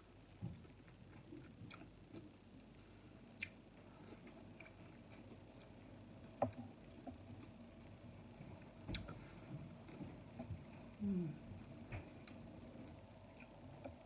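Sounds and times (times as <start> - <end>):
soft chewing of noodles: 0.2 - 14.0.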